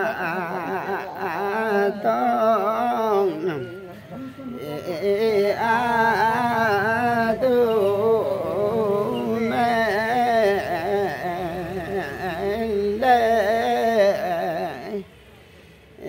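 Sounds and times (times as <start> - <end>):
voices singing folk song: 0.0 - 15.2.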